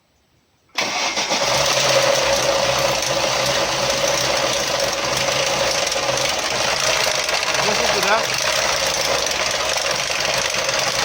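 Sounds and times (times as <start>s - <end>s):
car engine idling: 0.8s - 11.0s.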